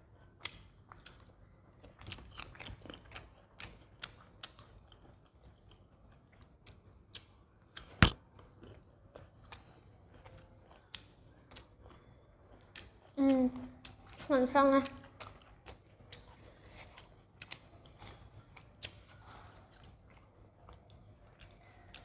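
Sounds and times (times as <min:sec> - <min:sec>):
people chewing and biting food: 0:00.1 - 0:22.0.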